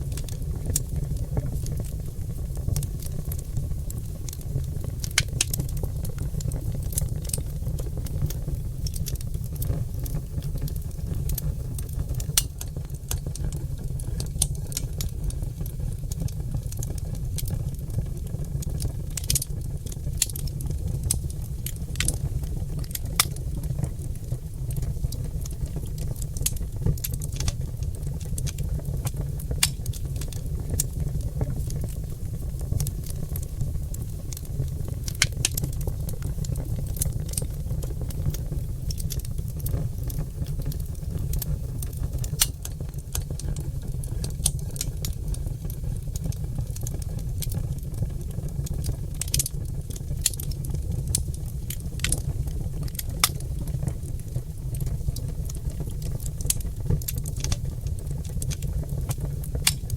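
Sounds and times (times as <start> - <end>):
fire low rumble: 0.0 - 59.9
logs crackling and popping: 0.0 - 59.9.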